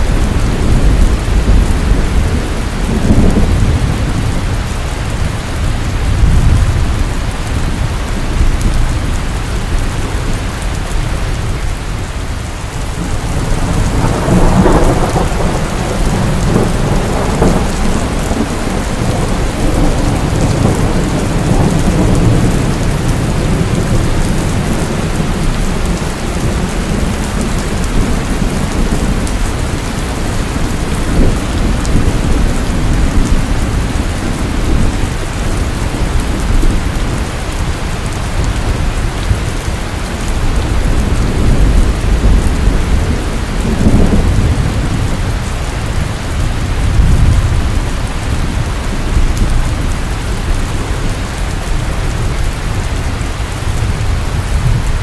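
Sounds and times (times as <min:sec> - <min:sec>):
heavy rainfall: 0:00.0 - 0:55.0
thunder rumbles: 0:00.0 - 0:55.0.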